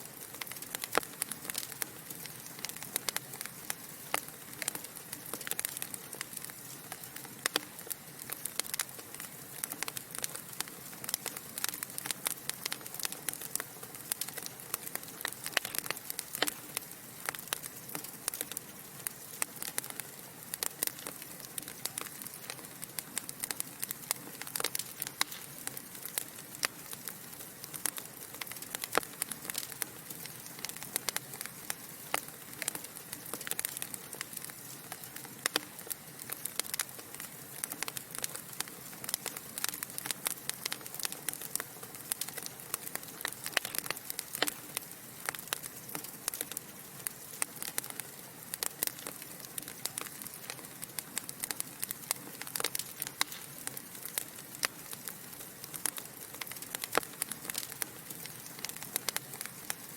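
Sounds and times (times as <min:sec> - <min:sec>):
burning logs crackling and popping: 0:00.0 - 0:59.9.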